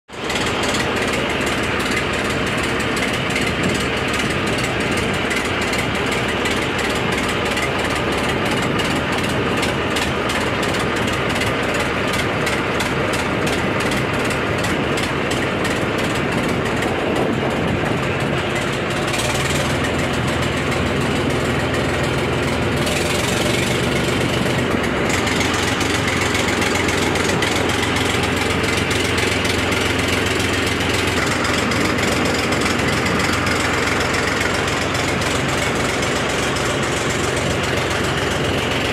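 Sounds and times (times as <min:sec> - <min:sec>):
boat engine running: 0:00.1 - 0:38.9.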